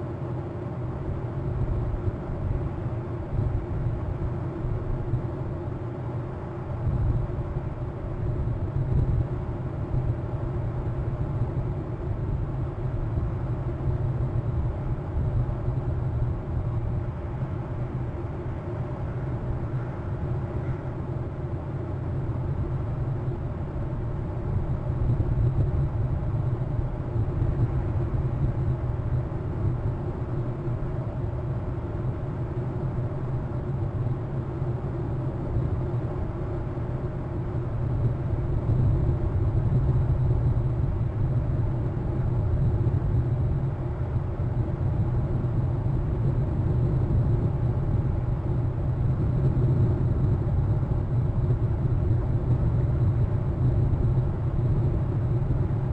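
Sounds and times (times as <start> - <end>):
low rumbling noise: 6.7 - 55.9.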